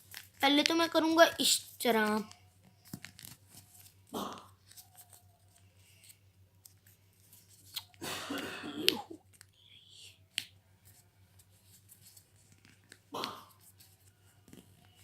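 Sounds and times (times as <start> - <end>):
paper crackling and crinkling: 0.0 - 8.0, 10.6 - 15.0.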